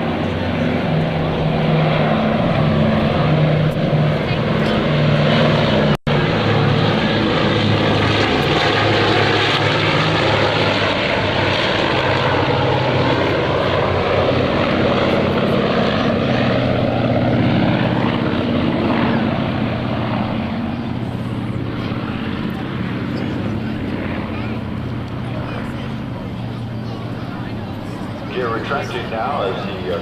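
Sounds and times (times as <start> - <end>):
propeller airliner engines passing: 0.0 - 30.0.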